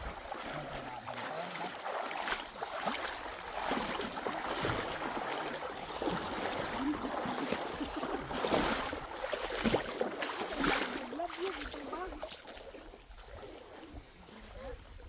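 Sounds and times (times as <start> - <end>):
splashes and knocks: 0.0 - 13.9
stream running water: 0.0 - 15.0.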